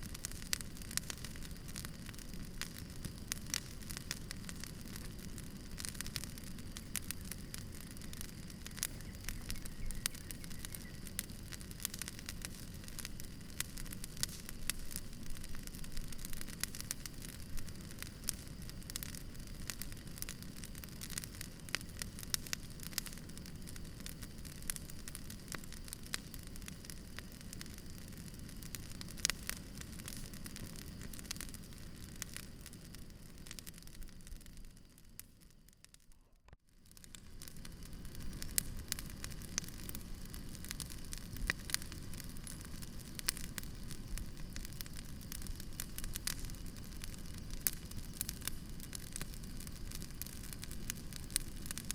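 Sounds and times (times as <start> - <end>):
campfire crackling and popping: 0.0 - 51.9
low rumble of burning fire: 0.0 - 51.9
low rush of flames: 0.0 - 51.9.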